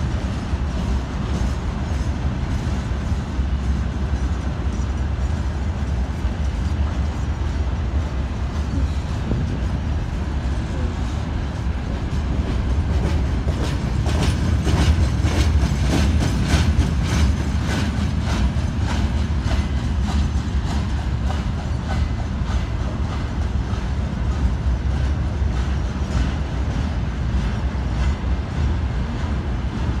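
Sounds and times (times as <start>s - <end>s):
train wagons rumbling: 0.0s - 30.0s
wheels clicking over rail joints: 0.0s - 30.0s.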